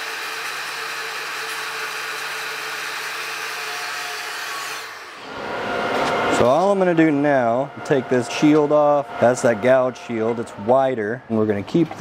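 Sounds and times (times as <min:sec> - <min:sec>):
angle grinder grinding steel: 0:00.0 - 0:12.0.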